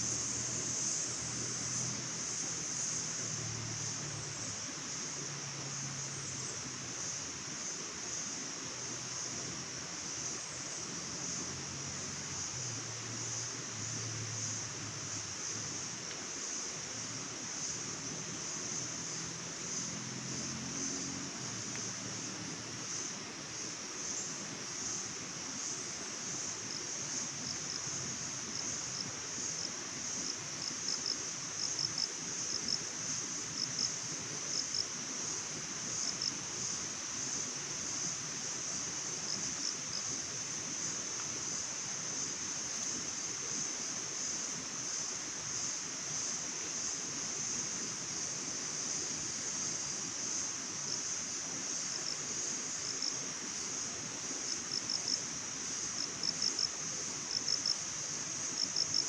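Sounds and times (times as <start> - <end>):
insects chirring: 0.0 - 59.0
soft hiss: 0.0 - 59.0.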